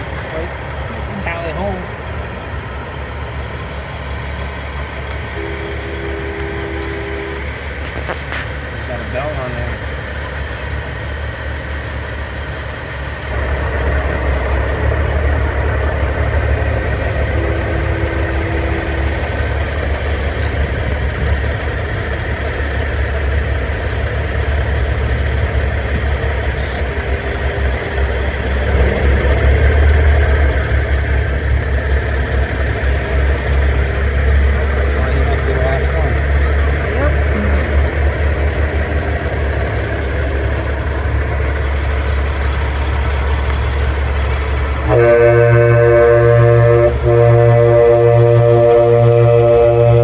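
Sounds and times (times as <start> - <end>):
diesel truck engines rumbling: 0.0 - 50.0.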